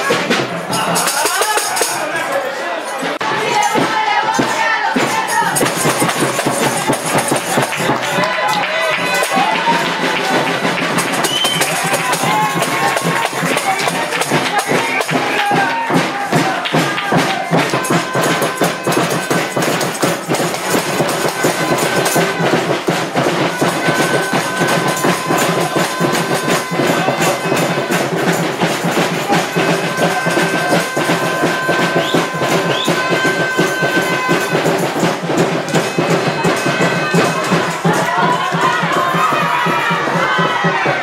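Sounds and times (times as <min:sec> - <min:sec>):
loud music with fast percussion: 0:00.0 - 0:02.2, 0:03.1 - 0:41.0
long held high notes: 0:05.3 - 0:40.6.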